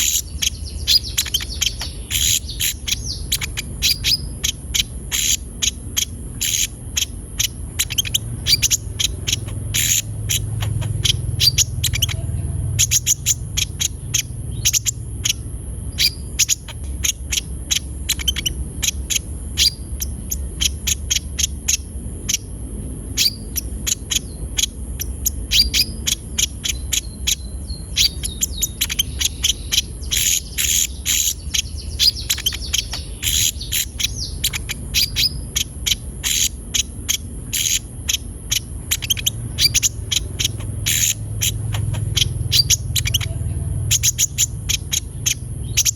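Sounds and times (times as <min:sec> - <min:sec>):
bird chirping rapidly: 0:00.0 - 0:45.9.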